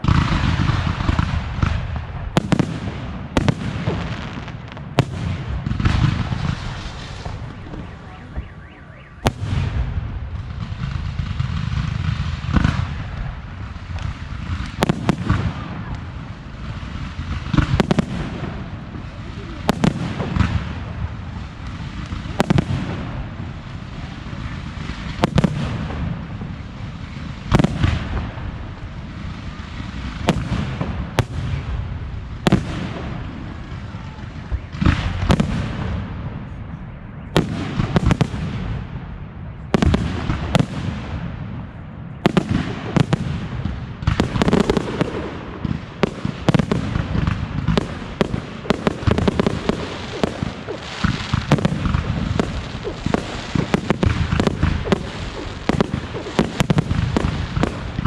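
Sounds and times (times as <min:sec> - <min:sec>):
fireworks booming and cracking: 0:00.0 - 0:58.0.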